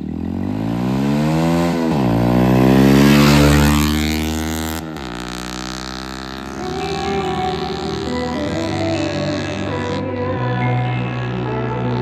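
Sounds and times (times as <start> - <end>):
motorcycle accelerating past: 0.0 - 12.0.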